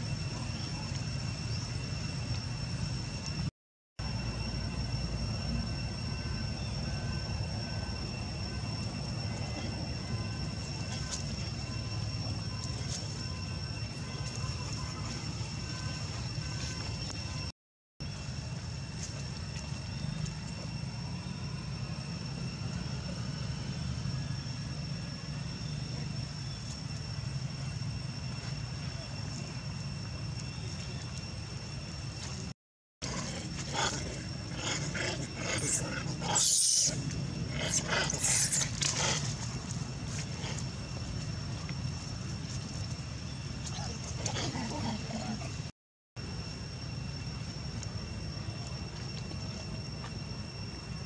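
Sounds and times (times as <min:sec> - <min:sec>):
high-pitched whine: 0:00.0 - 0:51.0
low outdoor rumble: 0:00.0 - 0:51.0.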